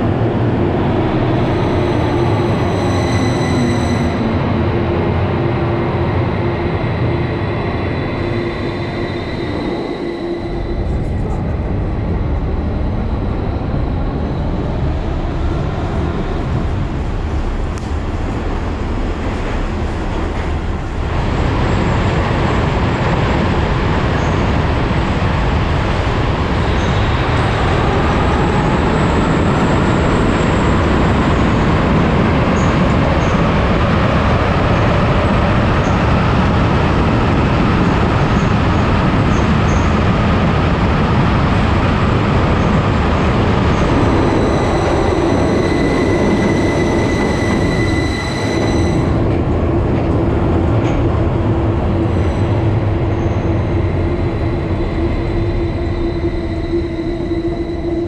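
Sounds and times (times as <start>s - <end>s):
tram high whine: 0.0s - 58.0s
tram running rumble: 0.0s - 58.0s.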